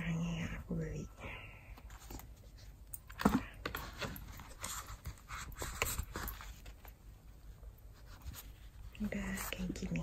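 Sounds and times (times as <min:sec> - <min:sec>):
rustling of box and bag: 0:01.7 - 0:10.0.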